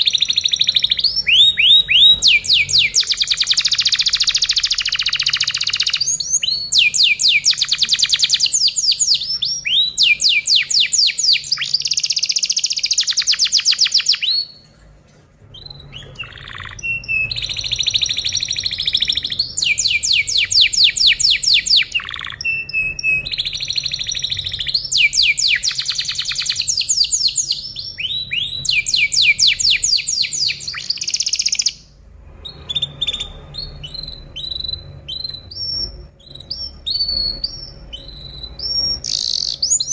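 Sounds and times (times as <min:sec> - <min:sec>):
canary singing trills: 0:00.0 - 0:14.7, 0:15.4 - 0:39.9.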